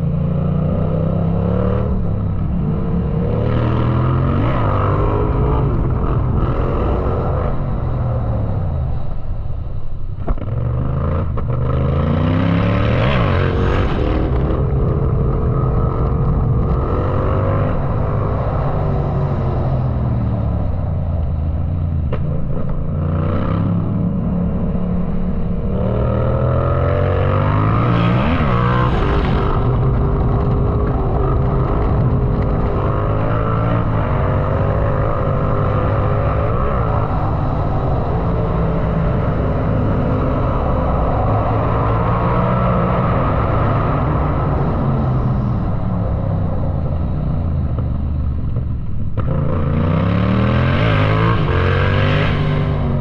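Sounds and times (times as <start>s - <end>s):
motorcycle engine revving: 10.2s - 53.0s.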